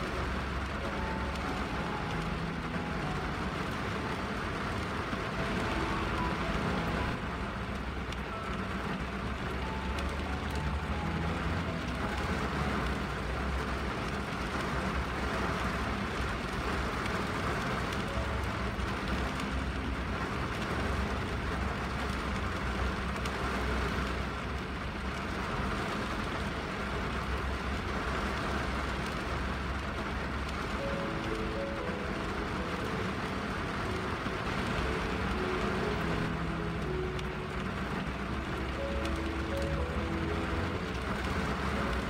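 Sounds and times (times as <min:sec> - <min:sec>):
rain on car windshield: 0:00.0 - 0:42.0.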